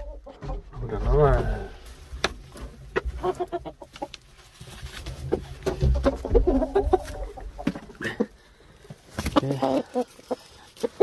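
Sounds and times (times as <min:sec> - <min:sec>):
chicken clucking: 0:00.0 - 0:11.0.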